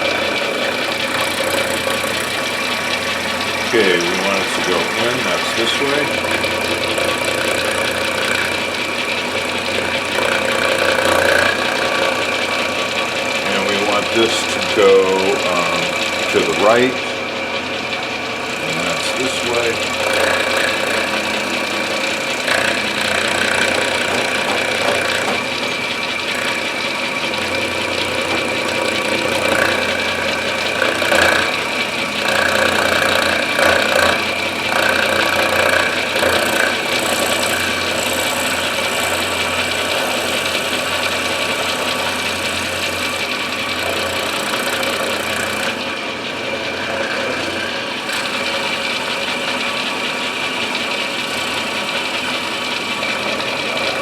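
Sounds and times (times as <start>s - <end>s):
milling machine spindle whine: 0.0s - 54.0s.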